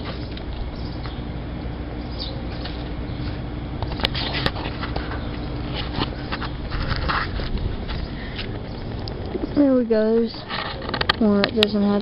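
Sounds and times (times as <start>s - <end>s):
air conditioner units humming: 0.0s - 12.0s.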